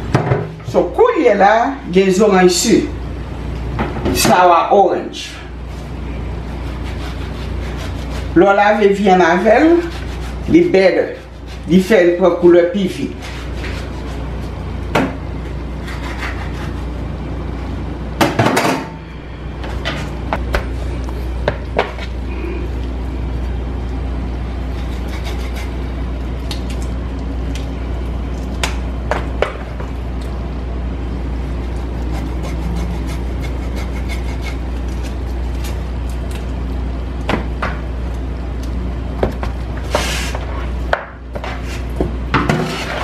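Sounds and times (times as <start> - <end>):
steady low hum: 0.0 - 43.0
knife and hands working raw chicken: 5.3 - 17.3, 19.6 - 30.5, 31.2 - 43.0.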